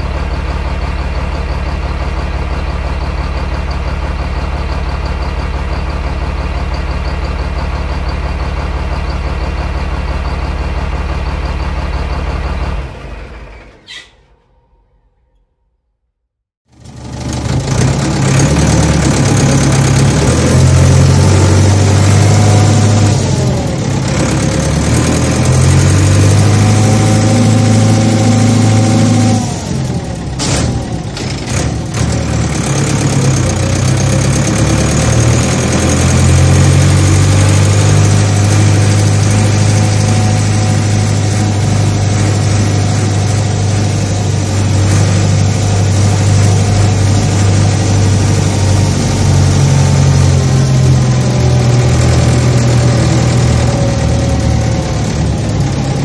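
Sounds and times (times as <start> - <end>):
farm machine engine humming: 0.0 - 14.2, 16.7 - 56.0.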